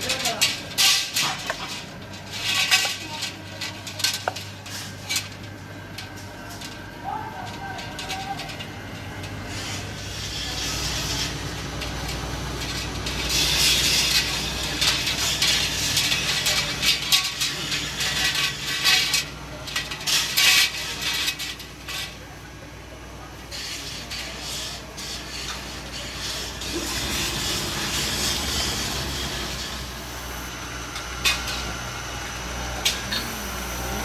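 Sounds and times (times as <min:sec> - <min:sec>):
steady machine hum: 0:00.0 - 0:34.0.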